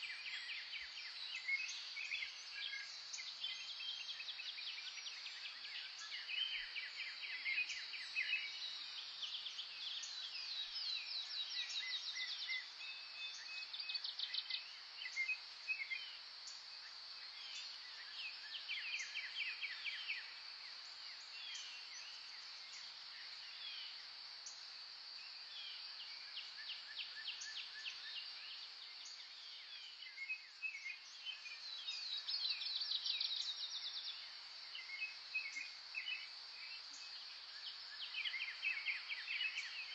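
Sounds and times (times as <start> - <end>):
songbirds singing in chorus: 0.0 - 39.9.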